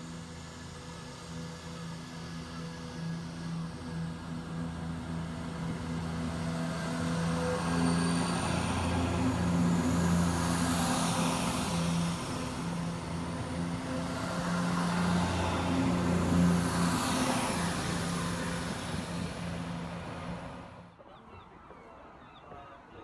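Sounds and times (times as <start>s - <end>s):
passenger train passing: 0.0s - 20.9s
wheel and rail noise: 0.0s - 20.9s.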